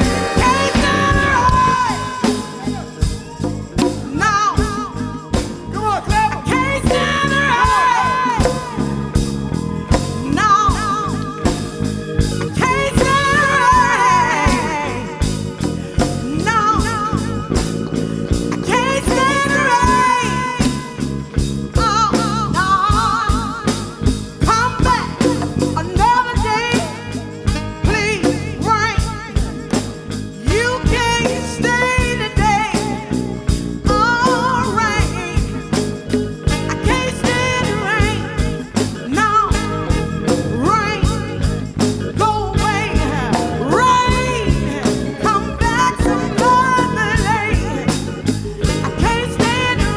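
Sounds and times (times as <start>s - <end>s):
drum kit beat: 0.0s - 49.9s
soul band playing: 0.0s - 49.9s.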